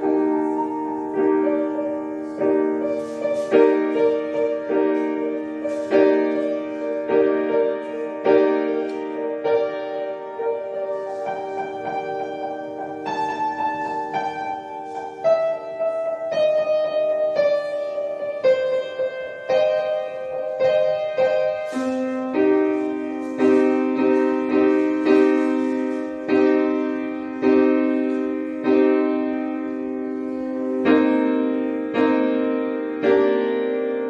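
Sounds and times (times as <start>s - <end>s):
piano-like keyboard music: 0.0s - 34.0s.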